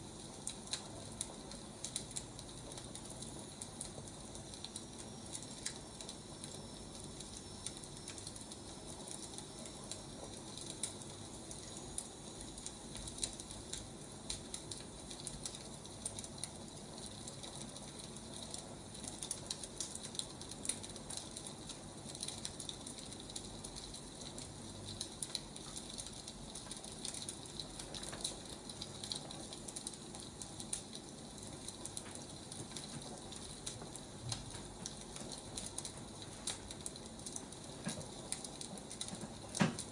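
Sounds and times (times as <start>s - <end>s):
firewood crackling: 0.1s - 39.9s.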